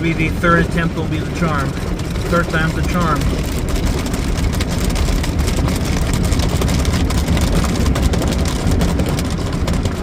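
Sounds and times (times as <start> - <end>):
car wash brushes and water rumbling: 0.0 - 10.0.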